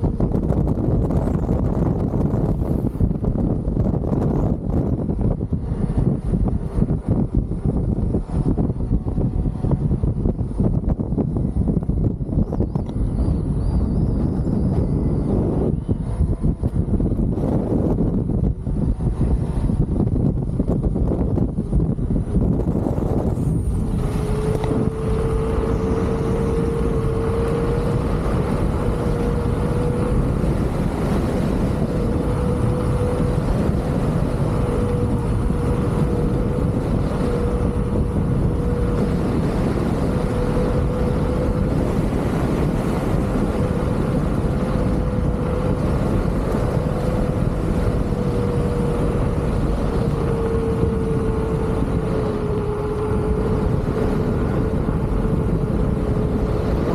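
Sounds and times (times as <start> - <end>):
electric motor whine: 0.0 - 56.9
wind and road noise: 0.0 - 56.9.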